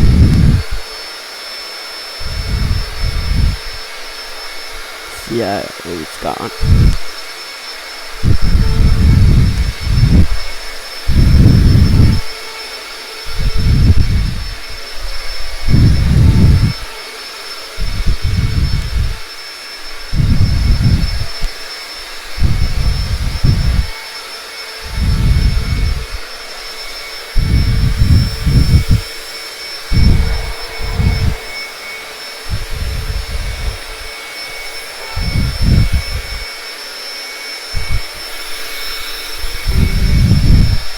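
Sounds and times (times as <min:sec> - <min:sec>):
vacuum cleaner motor whine: 0:00.0 - 0:05.1, 0:06.6 - 0:40.9.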